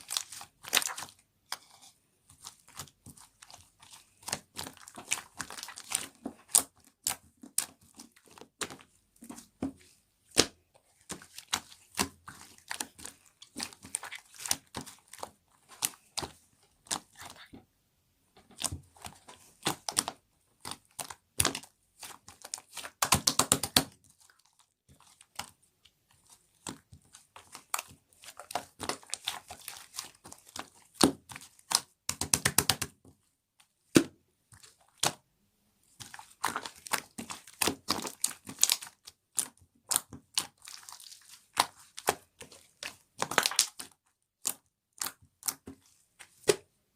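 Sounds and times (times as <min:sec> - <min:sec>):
slime squished by hand: 0:00.0 - 0:17.5, 0:18.5 - 0:33.0, 0:35.9 - 0:46.7.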